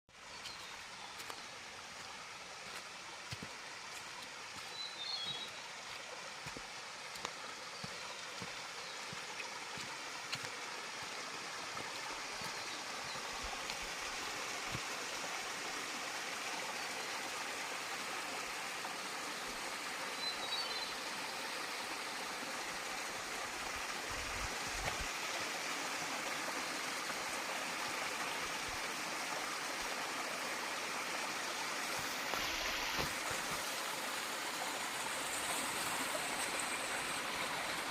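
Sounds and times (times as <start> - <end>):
small waterfall rushing and splashing: 0.1 - 37.9.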